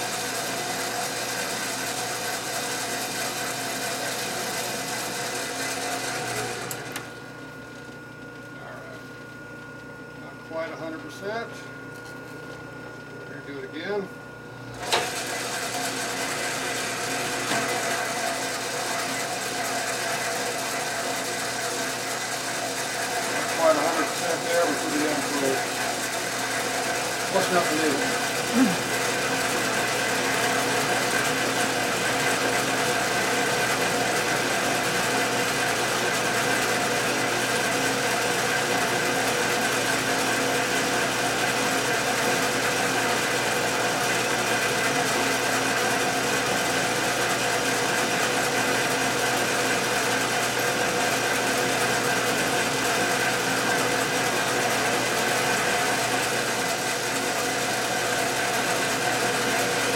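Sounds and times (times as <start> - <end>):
metal lathe humming: 0.0 - 8.0, 10.4 - 59.9.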